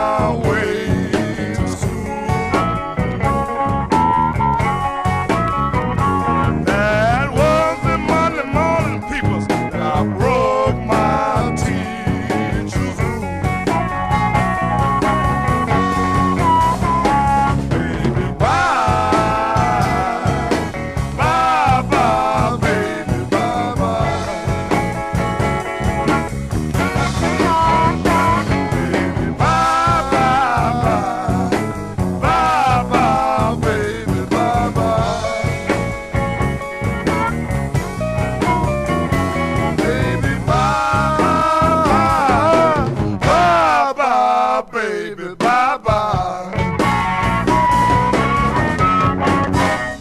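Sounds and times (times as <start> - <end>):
lead guitar bent notes: 0.0 - 43.8, 46.6 - 50.0
drums steady beat: 0.0 - 44.0, 45.4 - 50.0
bass guitar: 0.0 - 44.7, 45.3 - 50.0
electric blues band playing: 0.0 - 50.0.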